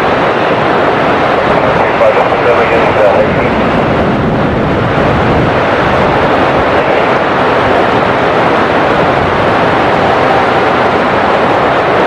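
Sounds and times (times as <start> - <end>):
faint engine whine: 0.0 - 12.0
heavy rain: 0.0 - 12.0
jet engines roaring: 0.0 - 12.0
wind: 0.0 - 12.0.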